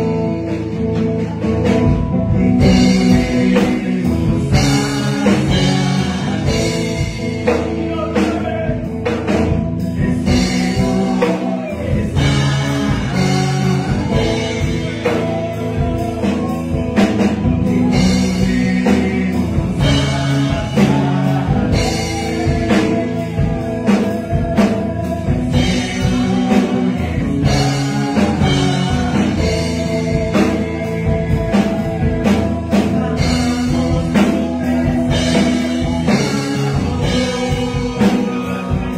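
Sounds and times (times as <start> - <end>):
instrumental backing with beat: 0.0 - 38.9
man singing into a microphone: 0.0 - 38.9.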